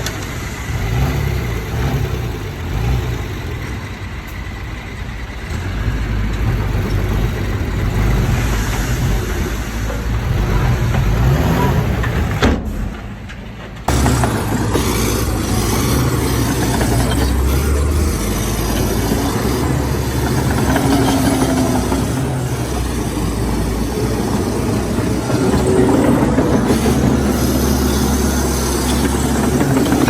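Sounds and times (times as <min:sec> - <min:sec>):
heavy diesel engines running: 0:00.0 - 0:30.0.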